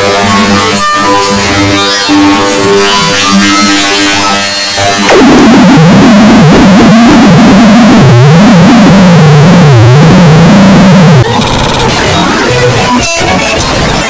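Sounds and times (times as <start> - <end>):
distorted electronic synthesizer tones: 0.0 - 14.0.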